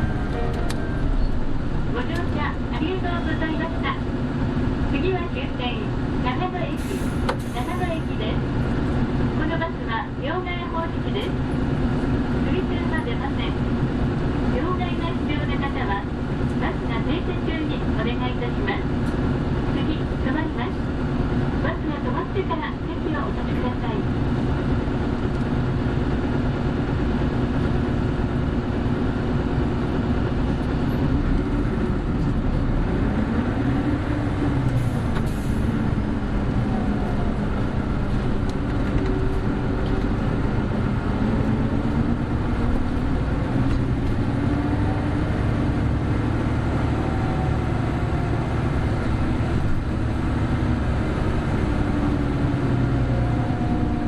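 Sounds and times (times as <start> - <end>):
bus diesel engine accelerating: 0.0 - 54.0
road noise: 0.0 - 54.0.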